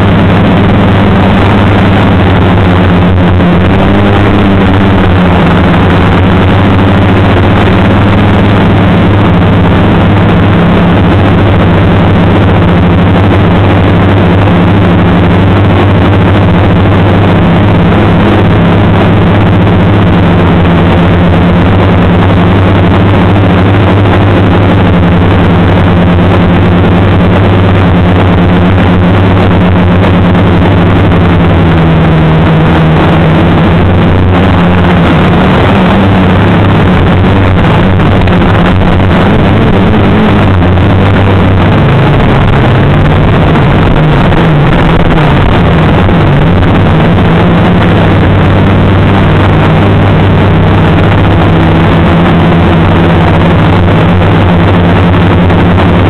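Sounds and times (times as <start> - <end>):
drone motors humming: 0.0 - 56.0
radio hiss: 0.0 - 56.0.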